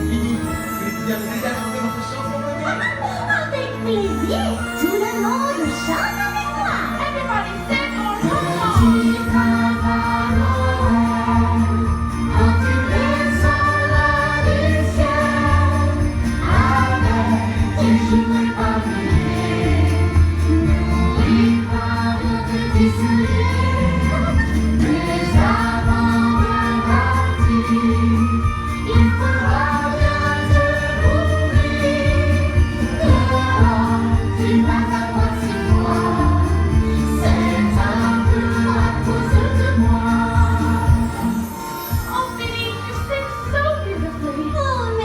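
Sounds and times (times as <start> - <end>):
christmas song over sound system: 0.0 - 45.0
sleigh bells jingling: 0.0 - 45.0.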